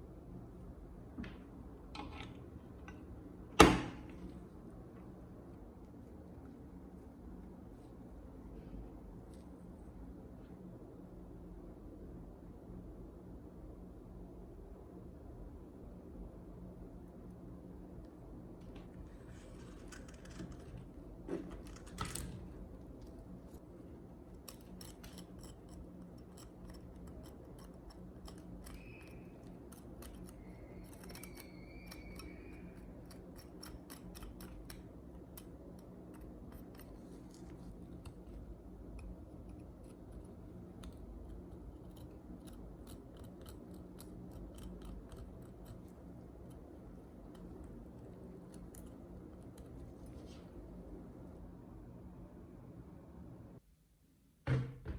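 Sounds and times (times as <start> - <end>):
steady low hum: 0.0 - 54.1.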